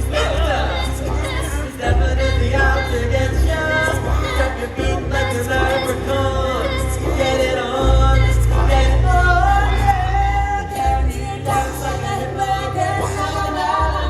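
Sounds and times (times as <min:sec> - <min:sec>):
amplified backing music: 0:00.0 - 0:14.0
choir singing: 0:00.0 - 0:14.0.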